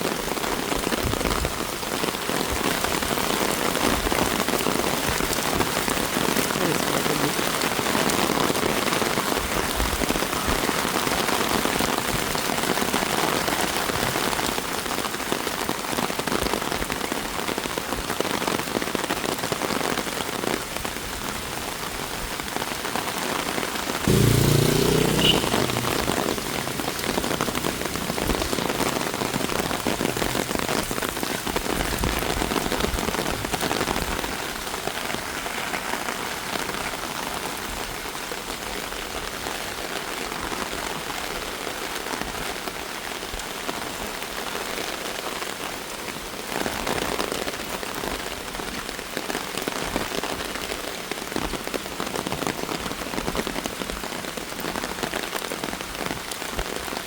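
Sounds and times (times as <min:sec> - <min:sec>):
rain falling on street: 0:00.0 - 0:57.0.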